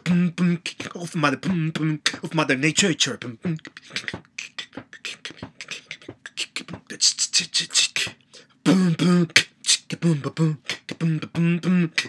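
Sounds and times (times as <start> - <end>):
man beatboxing: 0.0 - 12.0.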